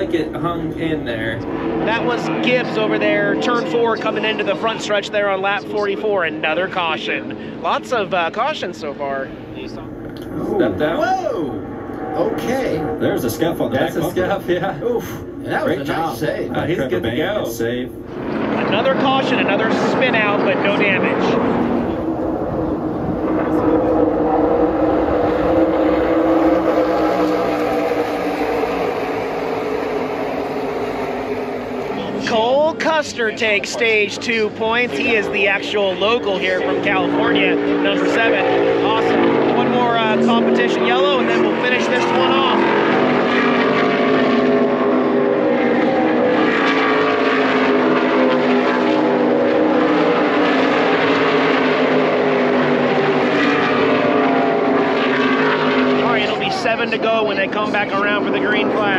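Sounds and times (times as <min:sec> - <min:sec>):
race car engines droning: 0:00.0 - 0:58.9.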